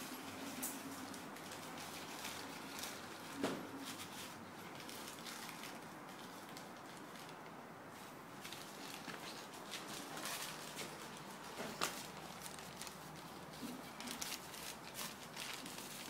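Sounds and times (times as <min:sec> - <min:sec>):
plastic bag crinkling: 0:00.2 - 0:16.0.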